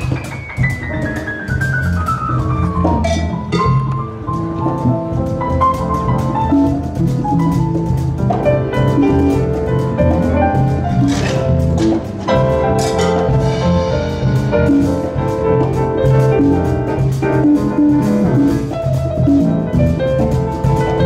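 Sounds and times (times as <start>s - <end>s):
grand piano playing: 0.0s - 21.0s.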